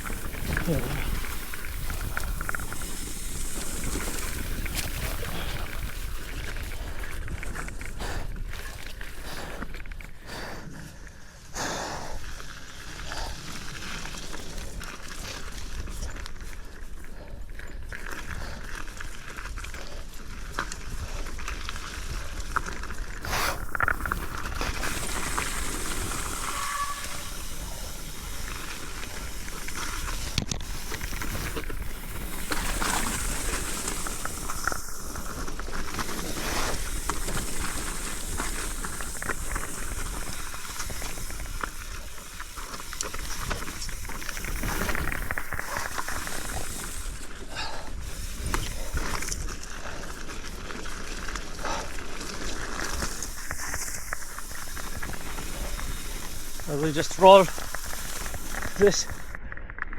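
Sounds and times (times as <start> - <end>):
tyres rolling on muddy trail: 0.0 - 59.9.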